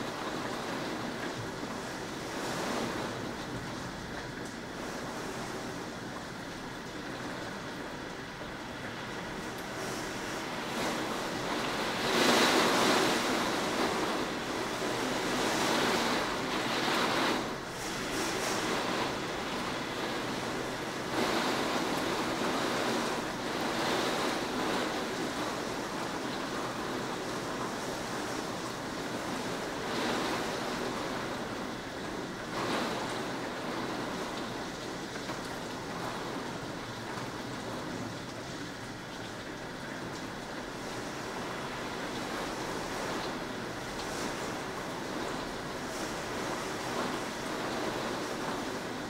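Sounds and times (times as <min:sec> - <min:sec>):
storm wind and rain rushing: 0:00.0 - 0:49.0.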